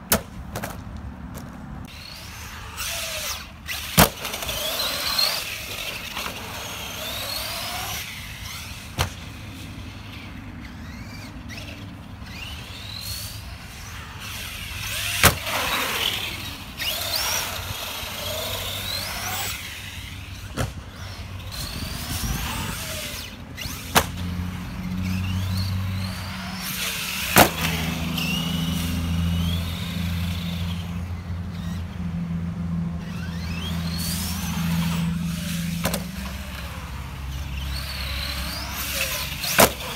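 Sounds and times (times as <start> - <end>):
electric motor whining: 1.9 - 32.1, 32.9 - 39.9.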